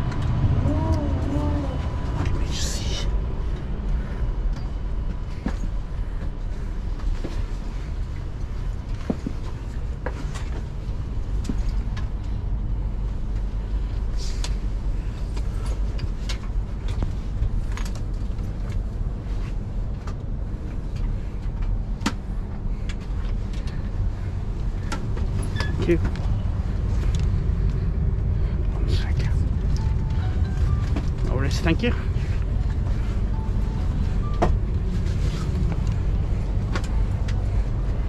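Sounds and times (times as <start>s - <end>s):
train carriage hum: 0.0s - 38.0s.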